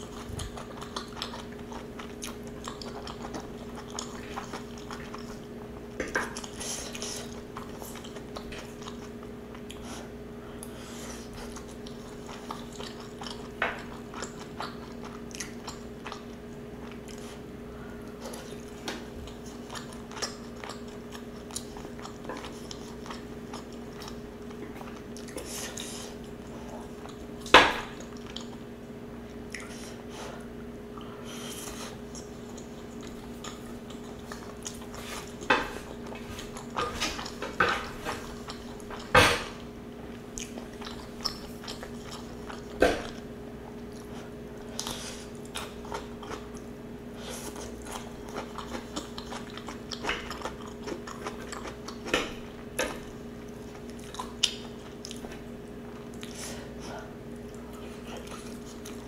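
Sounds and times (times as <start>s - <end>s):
person chewing food: 0.0s - 59.0s
steady low hum: 0.0s - 59.0s.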